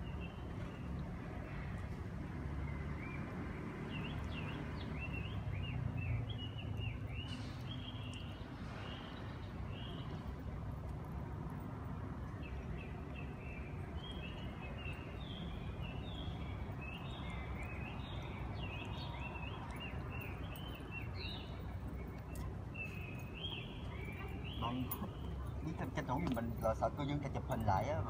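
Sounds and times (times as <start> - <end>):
small birds chirping: 2.7 - 28.0.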